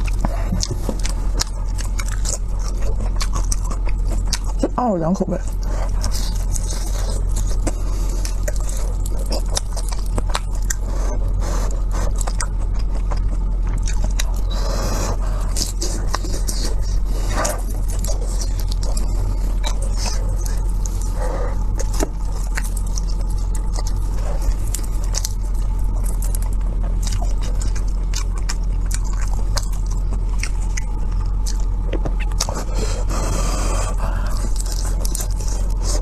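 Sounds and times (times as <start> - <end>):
person chewing: 0.0 - 4.7, 5.4 - 36.0
steady low hum: 0.0 - 36.0.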